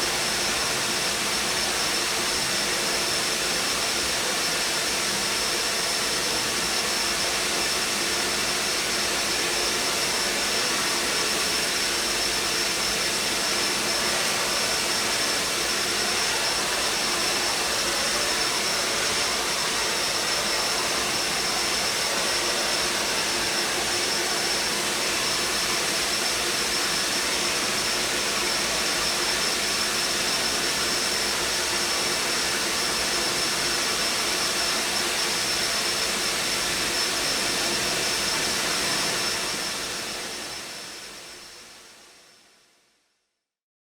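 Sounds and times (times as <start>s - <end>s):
vacuum cleaner running: 0.0s - 42.2s.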